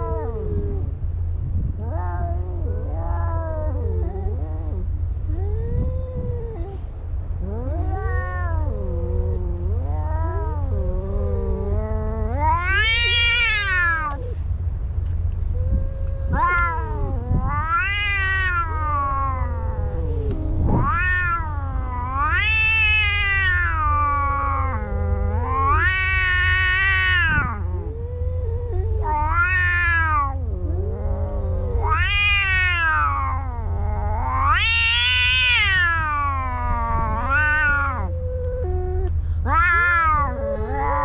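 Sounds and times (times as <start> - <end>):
cats yowling: 0.0 - 41.0.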